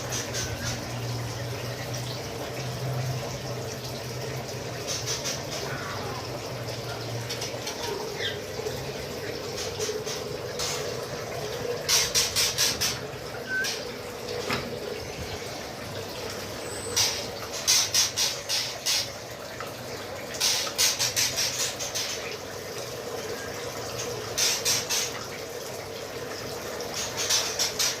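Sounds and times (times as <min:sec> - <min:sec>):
running water: 0:00.0 - 0:28.0.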